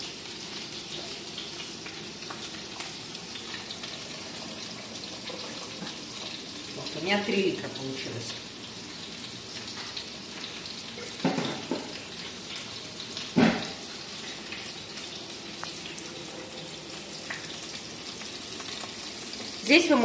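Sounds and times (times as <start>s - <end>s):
pot of stew simmering: 0.0s - 19.8s
beef patties sizzling in a pan: 0.0s - 20.0s.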